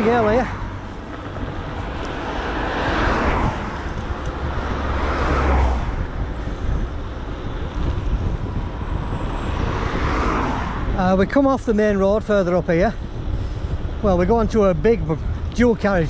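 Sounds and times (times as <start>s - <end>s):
vehicles passing: 0.0s - 16.0s
wind rumble on microphone: 0.0s - 16.0s.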